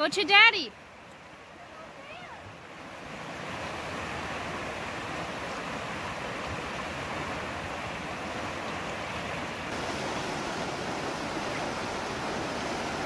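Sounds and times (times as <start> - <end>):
river rushing over rocks: 0.8 - 13.0.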